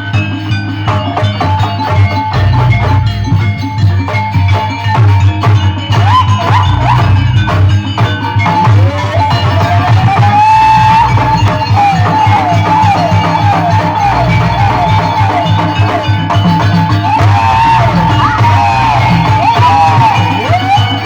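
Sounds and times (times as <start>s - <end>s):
drums and percussion beat: 0.0s - 21.0s
high sliding melody: 0.0s - 21.0s.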